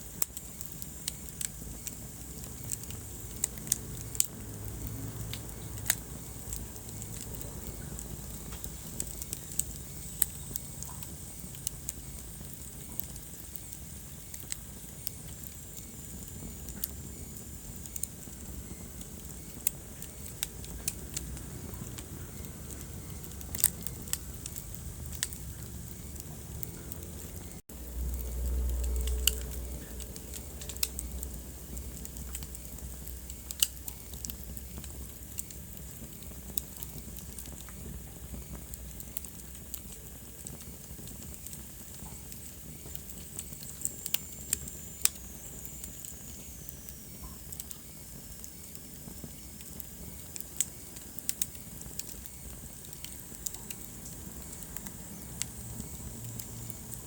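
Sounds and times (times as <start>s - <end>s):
faint steady hiss: 0.0s - 57.0s
wood fire crackling and popping: 0.0s - 57.0s.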